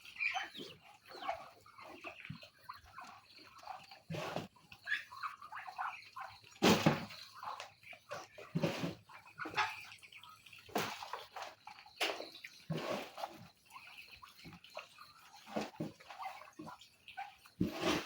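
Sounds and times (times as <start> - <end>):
ducks dabbling in food and water: 0.0 - 18.0.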